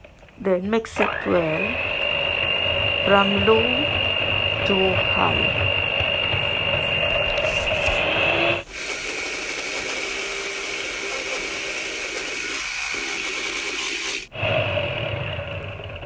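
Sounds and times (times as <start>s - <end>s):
electric hand mixer whine: 1.0s - 16.0s.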